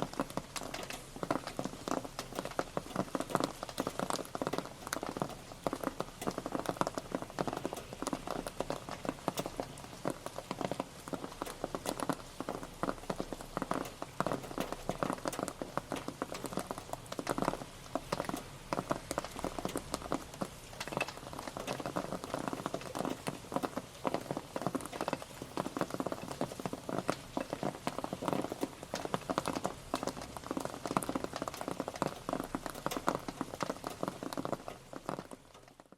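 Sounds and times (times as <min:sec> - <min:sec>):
rain pattering: 0:00.0 - 0:35.9.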